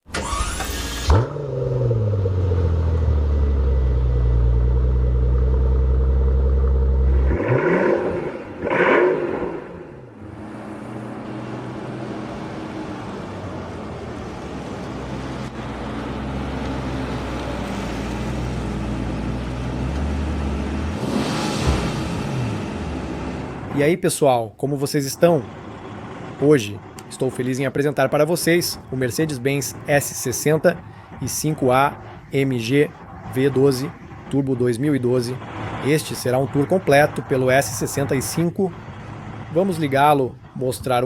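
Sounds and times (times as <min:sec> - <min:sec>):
car engine starting and idling: 0:00.0 - 0:41.0
engine revving: 0:00.1 - 0:13.8, 0:14.6 - 0:23.9, 0:25.0 - 0:41.0.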